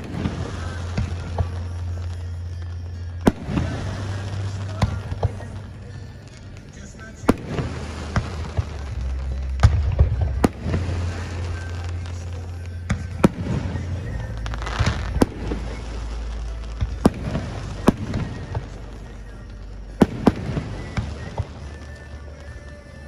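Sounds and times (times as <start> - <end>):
fireworks bangs: 0.0 - 23.0
fireworks crackle: 0.0 - 23.0
low rumble: 0.0 - 23.0.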